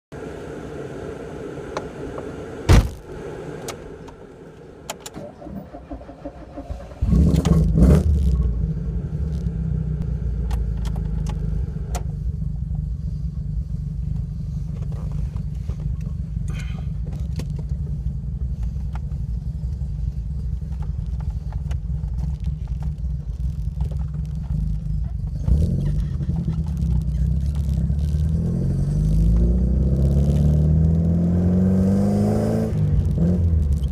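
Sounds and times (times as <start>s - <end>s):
car engine starting and idling: 0.2s - 33.9s.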